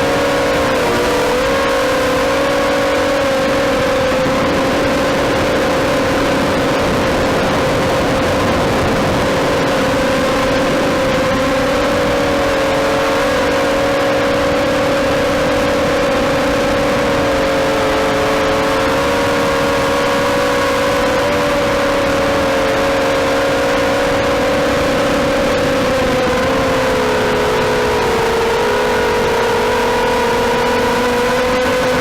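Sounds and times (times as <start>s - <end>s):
quadcopter propellers buzzing: 0.0s - 32.0s.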